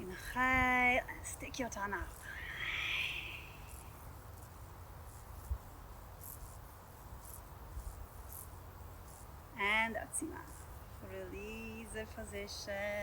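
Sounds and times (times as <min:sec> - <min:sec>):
insects chirping: 0:00.0 - 0:12.7.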